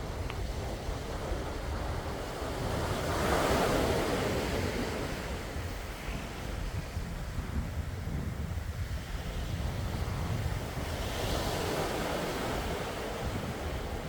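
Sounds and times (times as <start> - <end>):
sea waves washing ashore: 0.0 - 14.0
wind rumble on microphone: 0.0 - 14.0.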